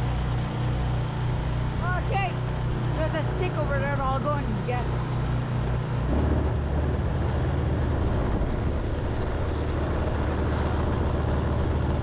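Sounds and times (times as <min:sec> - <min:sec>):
quad engine running: 0:00.0 - 0:12.0.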